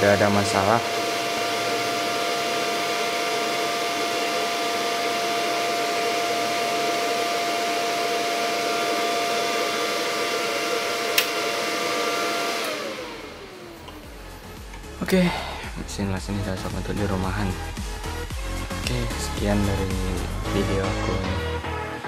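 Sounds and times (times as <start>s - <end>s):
welding machine fan whirring: 0.0s - 21.3s.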